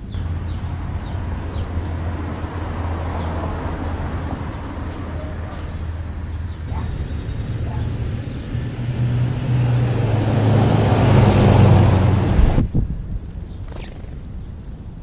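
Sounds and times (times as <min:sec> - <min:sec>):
vehicle engine passing: 0:00.0 - 0:12.7.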